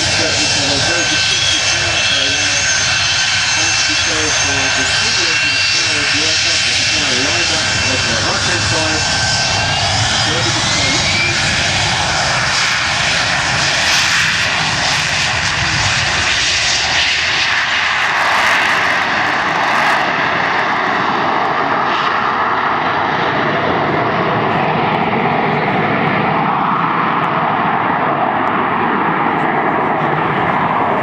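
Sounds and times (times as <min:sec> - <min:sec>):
jet engine roaring with high whine: 0:00.0 - 0:31.0.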